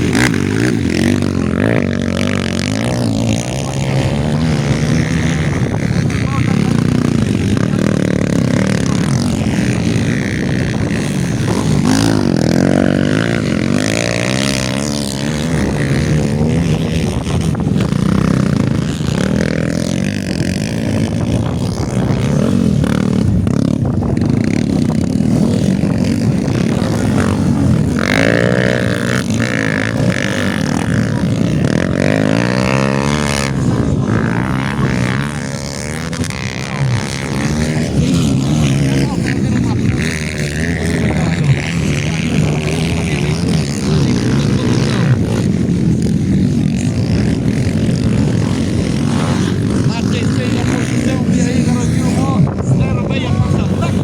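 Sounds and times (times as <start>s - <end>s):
dirt bikes racing: 0.0s - 54.0s.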